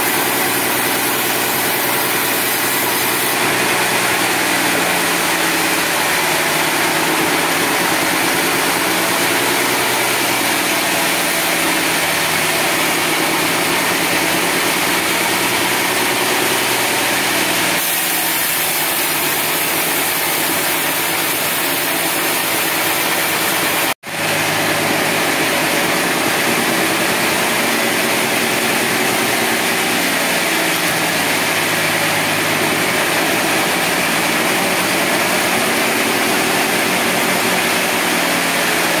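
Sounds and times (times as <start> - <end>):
engine running steadily: 0.0 - 39.0
saw machinery noise: 0.0 - 39.0.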